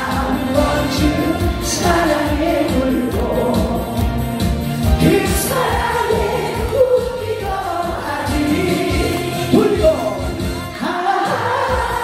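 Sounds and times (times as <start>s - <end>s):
backing track with steady beat: 0.0s - 12.0s.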